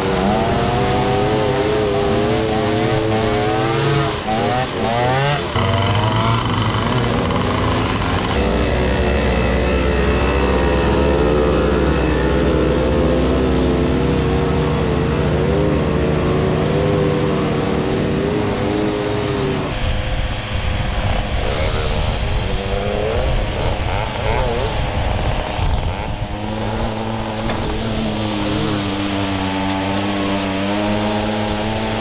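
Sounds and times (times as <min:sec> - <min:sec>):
moped engines revving: 0:00.0 - 0:32.0.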